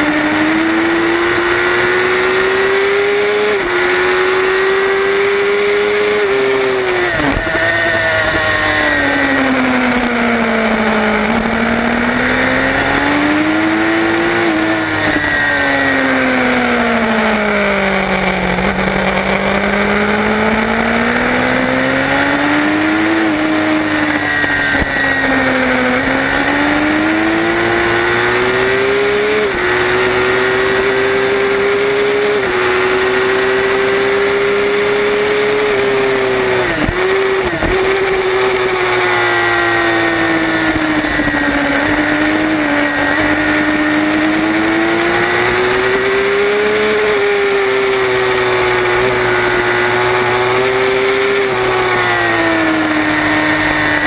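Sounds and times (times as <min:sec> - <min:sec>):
racing motorcycle engine revving: 0:00.0 - 0:54.0.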